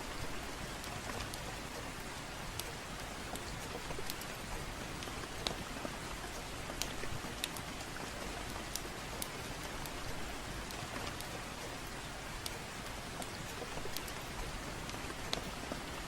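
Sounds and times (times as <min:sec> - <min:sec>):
gentle rain hiss: 0:00.0 - 0:16.0
wood fire crackling: 0:02.4 - 0:15.6.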